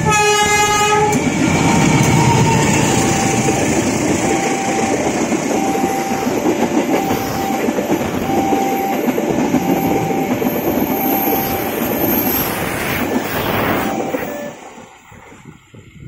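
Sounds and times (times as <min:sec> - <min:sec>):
train wheels on rails: 0:00.0 - 0:16.0
level crossing warning tones: 0:01.4 - 0:15.1.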